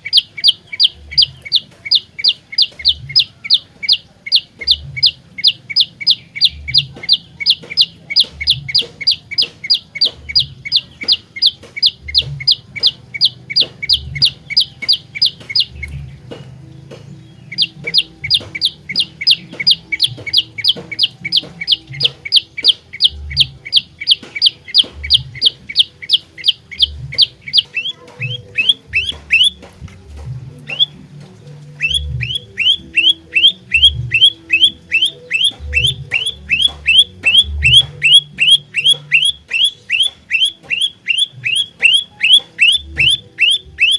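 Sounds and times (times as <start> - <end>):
songbird calling: 0.0 - 43.9.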